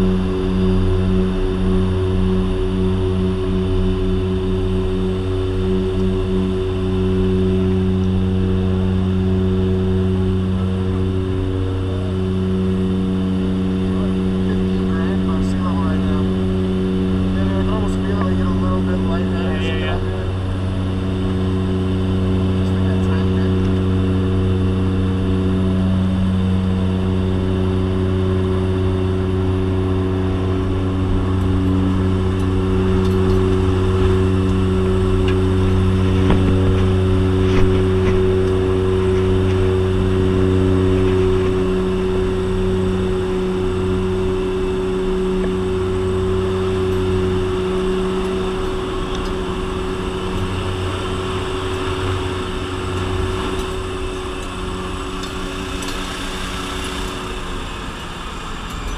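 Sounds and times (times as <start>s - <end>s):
plane engines droning: 0.0s - 58.9s.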